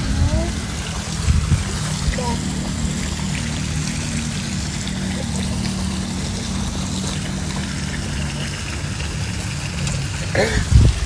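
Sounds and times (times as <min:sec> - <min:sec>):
constant hiss: 0:00.0 - 0:11.0
low even hum: 0:00.0 - 0:11.0.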